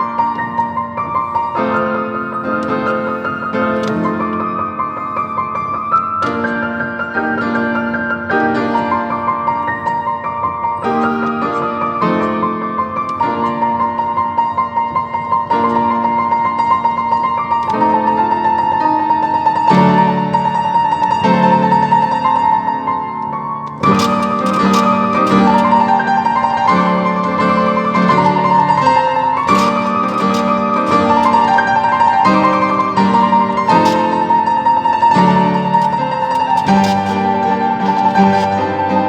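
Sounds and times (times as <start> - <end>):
solo piano playing: 0.0 - 39.0.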